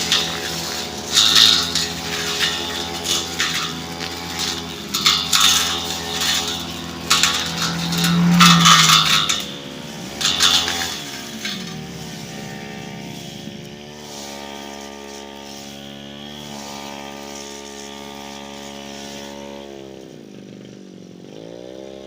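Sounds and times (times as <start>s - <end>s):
cutting head striking brush: 0.0s - 19.4s
brush cutter engine running: 0.0s - 22.0s.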